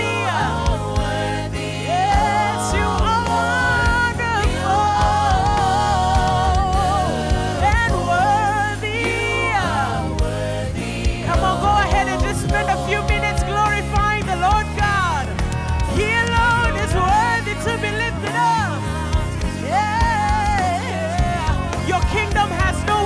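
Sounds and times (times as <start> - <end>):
gospel band playing: 0.0 - 23.0
person singing: 0.0 - 23.0.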